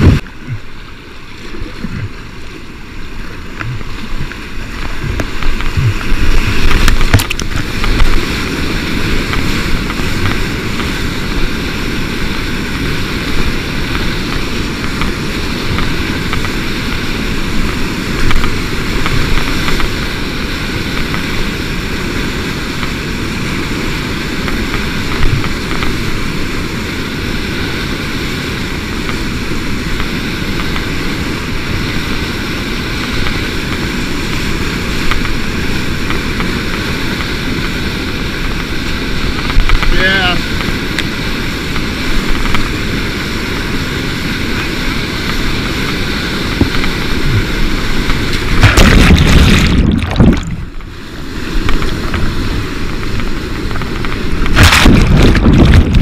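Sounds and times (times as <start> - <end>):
creek water rushing: 0.0 - 56.0
paddle strokes splashing: 0.0 - 56.0.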